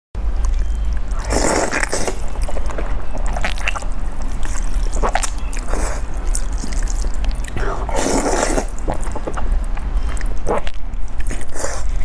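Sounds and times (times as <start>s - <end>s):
steady low hum: 0.2s - 12.0s
noodles slurped and chewed: 0.3s - 12.0s.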